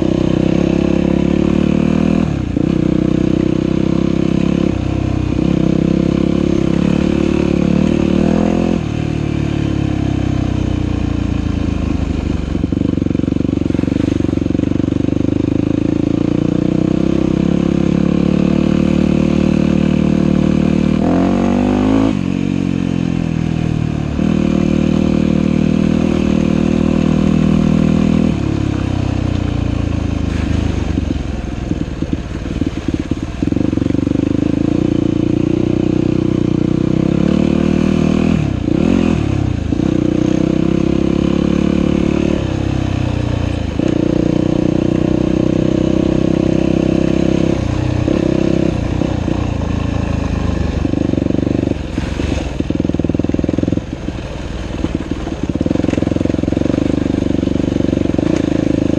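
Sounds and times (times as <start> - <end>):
dirt bike engine revving: 0.0 - 11.4, 12.6 - 31.0, 32.0 - 58.9.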